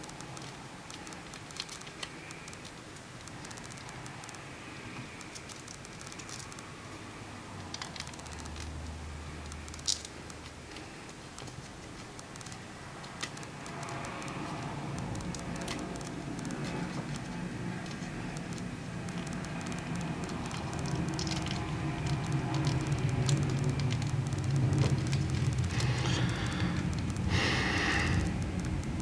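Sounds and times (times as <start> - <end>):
sharp paper clicks: 0.0 - 6.8, 7.4 - 29.0.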